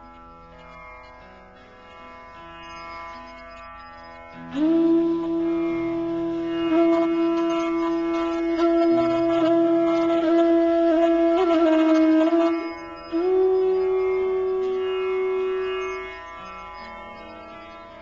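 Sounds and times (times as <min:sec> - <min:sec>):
low drone: 0:01.2 - 0:18.0
woodwind sustained notes: 0:02.4 - 0:18.0.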